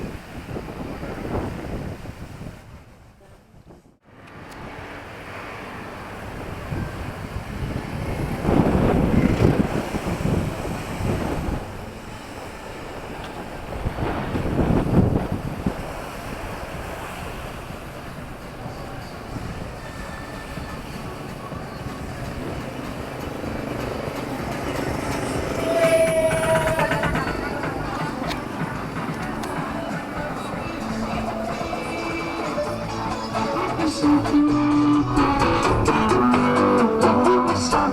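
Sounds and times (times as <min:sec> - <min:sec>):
background traffic rumble: 0:03.2 - 0:37.9
vehicles passing close by: 0:04.0 - 0:14.5, 0:15.2 - 0:37.9.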